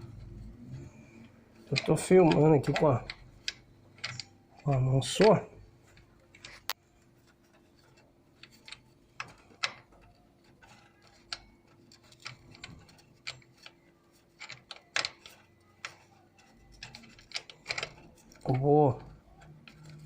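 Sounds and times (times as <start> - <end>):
metal tools clicking and tapping: 0.0 - 20.0.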